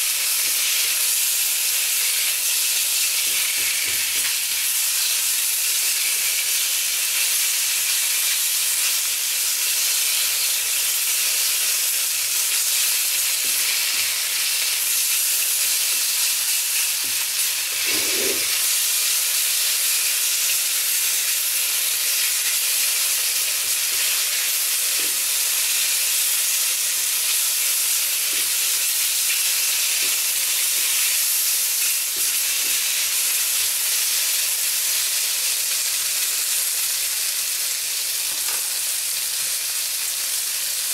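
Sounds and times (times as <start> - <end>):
meat sizzling in a wok: 0.0 - 40.9.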